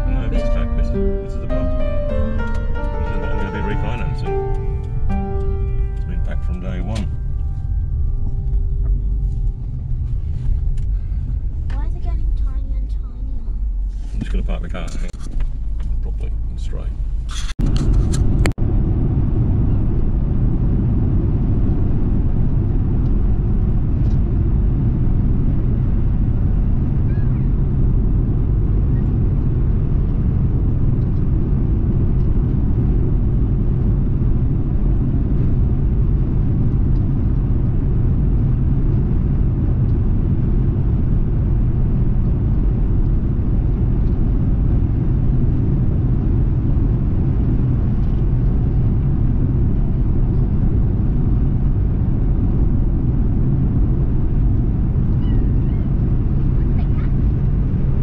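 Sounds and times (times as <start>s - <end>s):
car interior road noise: 0.0s - 58.0s.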